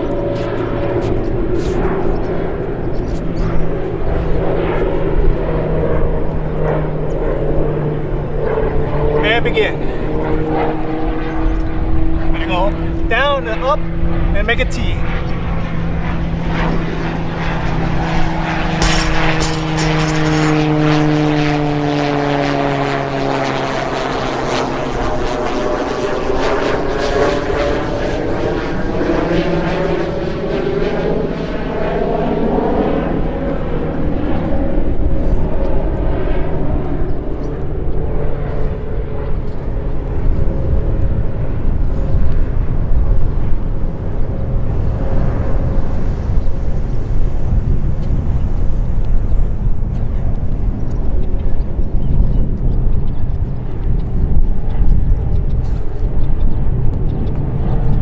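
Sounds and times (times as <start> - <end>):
propeller airplane engine drone: 0.0 - 58.0.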